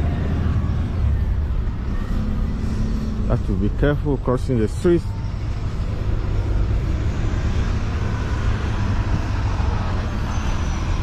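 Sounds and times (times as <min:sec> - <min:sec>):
vehicles passing: 0:00.0 - 0:11.0.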